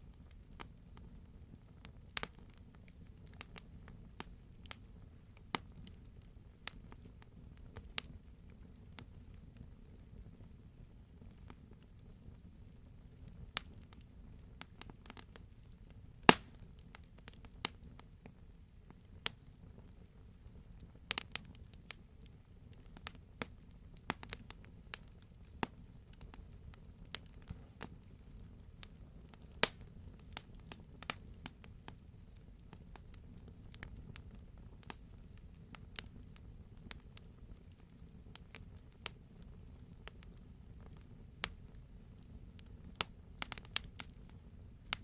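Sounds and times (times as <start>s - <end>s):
low rumble of flames: 0.0s - 45.0s
campfire crackling and popping: 0.1s - 45.0s.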